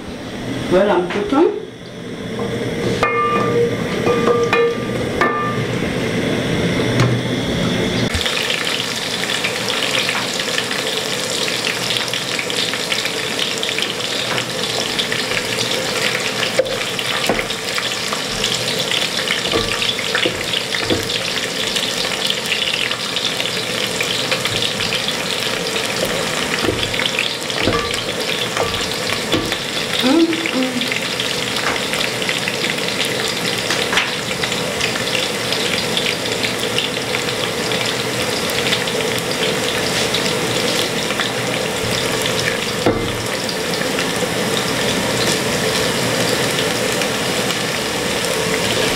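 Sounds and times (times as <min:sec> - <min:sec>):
onions sizzling in oil: 0:01.7 - 0:48.9.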